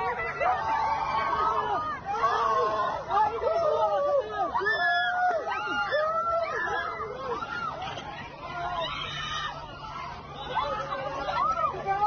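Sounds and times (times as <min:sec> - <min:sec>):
people shouting and wailing: 0:00.0 - 0:12.0.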